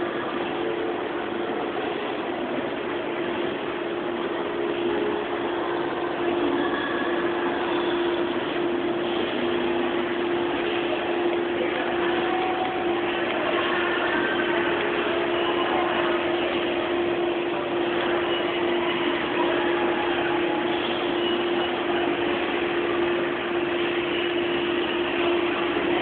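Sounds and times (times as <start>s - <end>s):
steady hum with low tone: 0.0s - 26.0s.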